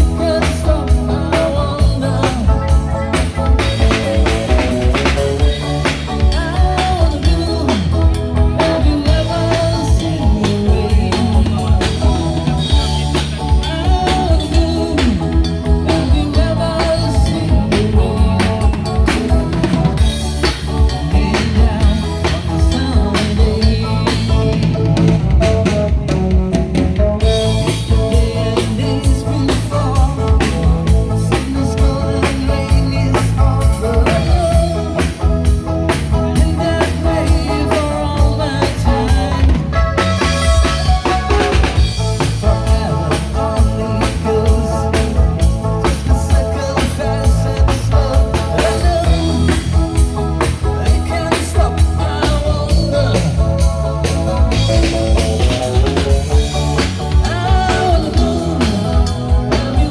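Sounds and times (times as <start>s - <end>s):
drum kit beat: 0.0s - 59.9s
live rock band playing: 0.0s - 59.9s.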